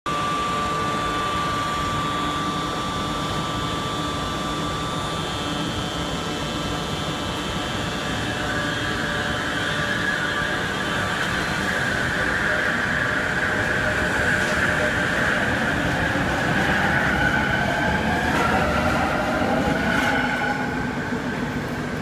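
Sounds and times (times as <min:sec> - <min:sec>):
train electrical whine and hum: 0:00.1 - 0:22.0
train pulling away whine: 0:00.1 - 0:22.0.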